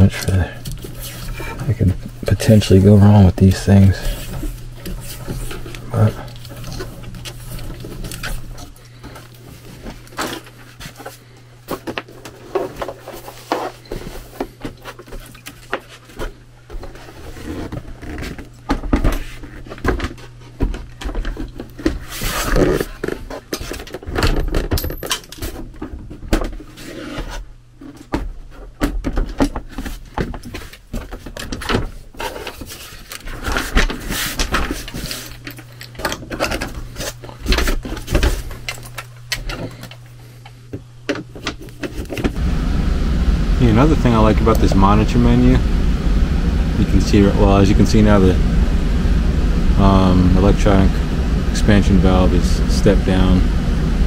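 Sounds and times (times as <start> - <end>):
low hum of air handler: 0.0 - 54.0.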